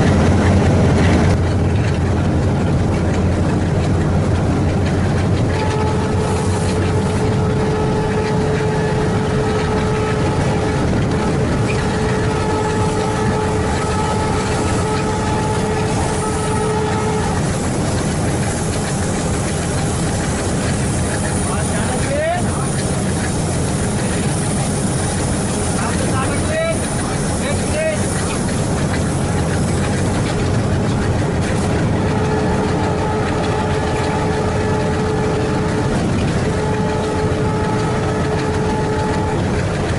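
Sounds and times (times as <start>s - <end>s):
diesel locomotive engine chugging: 0.0s - 39.9s
engine whine: 0.0s - 39.9s
train coaches rumbling on rails: 0.0s - 39.9s.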